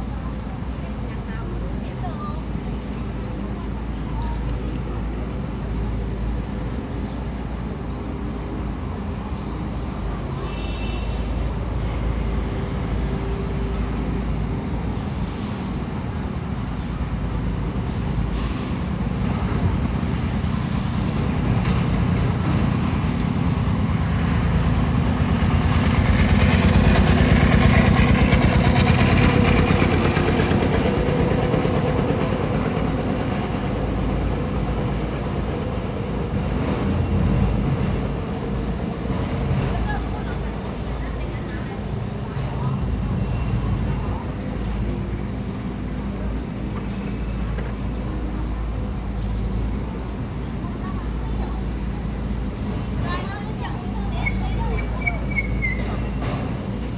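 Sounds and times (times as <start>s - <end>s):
diesel excavator engine rumbling: 0.0s - 56.9s.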